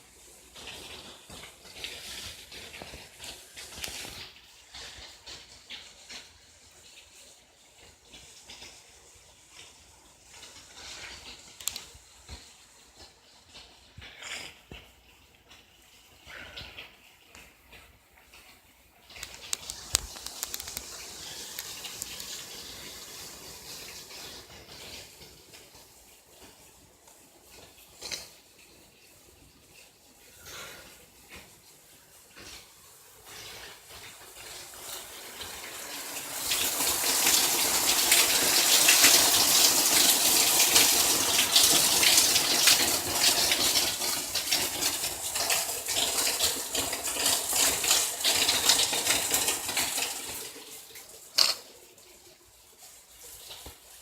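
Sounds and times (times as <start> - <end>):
rain patter and drips: 0.0 - 54.0.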